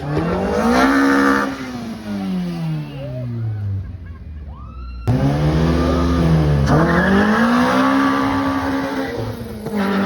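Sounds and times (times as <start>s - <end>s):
drag racing car accelerating: 0.0s - 4.0s, 5.1s - 10.0s.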